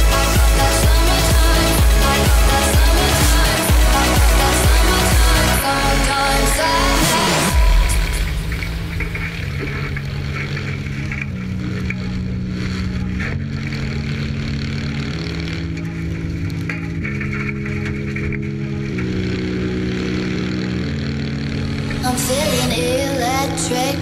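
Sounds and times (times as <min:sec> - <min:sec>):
dance music low notes: 0:00.0 - 0:24.0
gravel noise: 0:00.0 - 0:24.0
race car engine running: 0:00.0 - 0:24.0.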